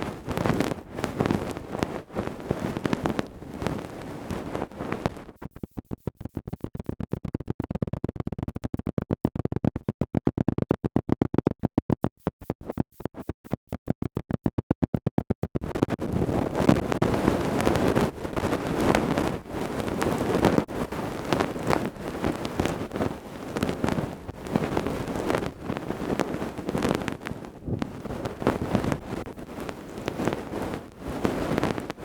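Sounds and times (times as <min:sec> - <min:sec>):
scratching and rubbing on microphone: 0:00.0 - 0:32.0.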